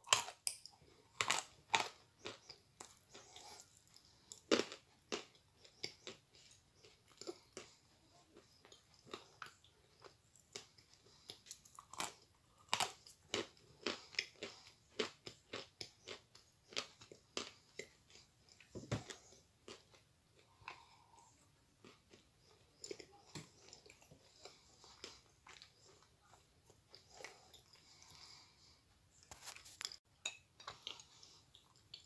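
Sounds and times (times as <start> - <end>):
chewing crunchy clay: 0.0 - 28.1.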